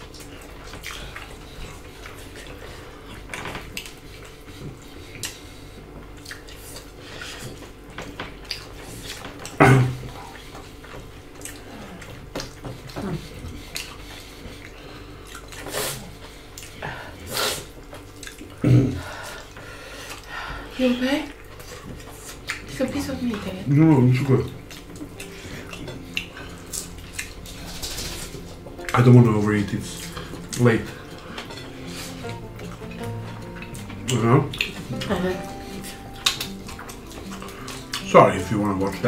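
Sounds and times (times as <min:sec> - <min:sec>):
wet chewing and smacking: 0:00.0 - 0:16.9, 0:17.6 - 0:20.3, 0:21.2 - 0:39.0.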